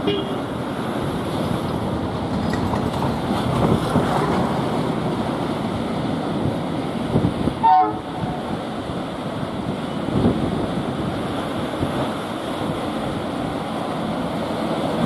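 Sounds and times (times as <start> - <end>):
diesel locomotive rolling past: 0.0 - 15.0
surf: 0.0 - 15.0
wind: 0.0 - 15.0.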